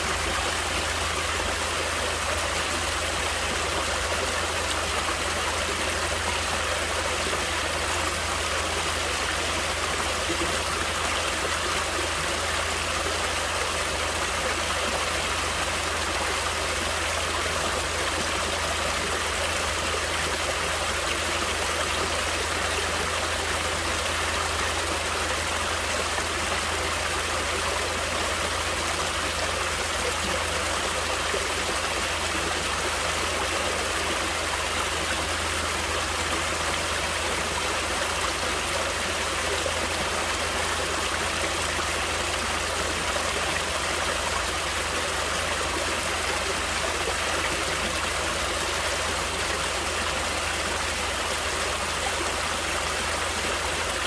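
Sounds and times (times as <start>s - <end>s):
stream water flowing and splashing: 0.0s - 54.0s.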